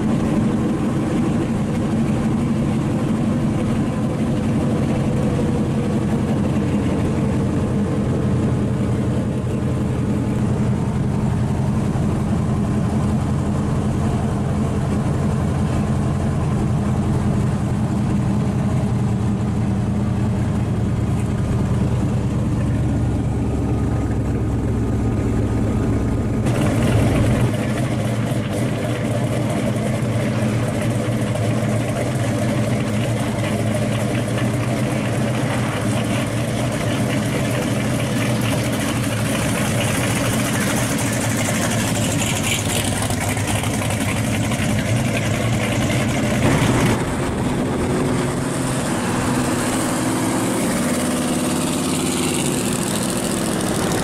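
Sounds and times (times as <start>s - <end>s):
car engine cruising: 0.0s - 54.0s
car rolling by: 0.0s - 54.0s.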